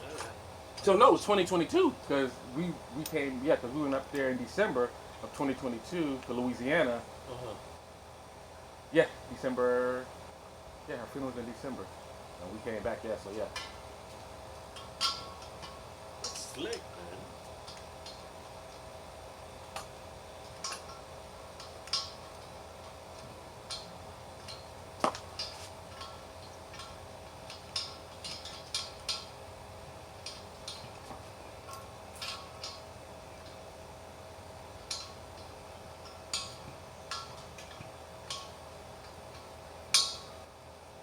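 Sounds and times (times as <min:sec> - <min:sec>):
charcoal fire crackling: 0:00.0 - 0:41.0
steady low hum: 0:00.0 - 0:41.0.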